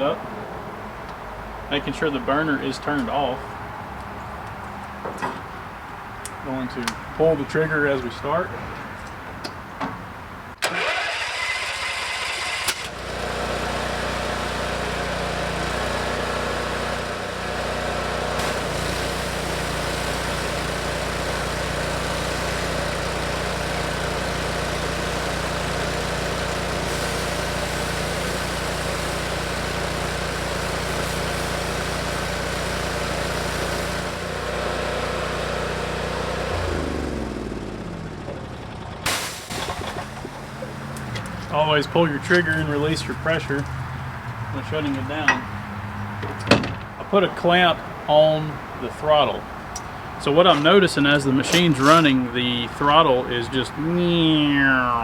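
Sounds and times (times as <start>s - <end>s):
engine winding down: 10.6s - 55.0s
pressure washer engine running: 10.6s - 55.0s.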